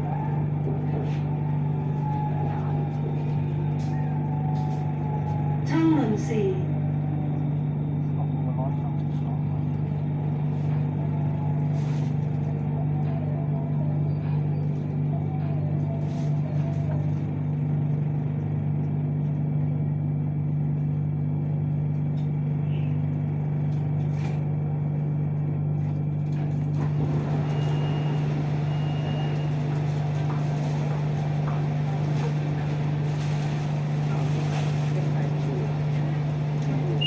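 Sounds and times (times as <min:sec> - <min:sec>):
train equipment low hum: 0:00.0 - 0:37.0.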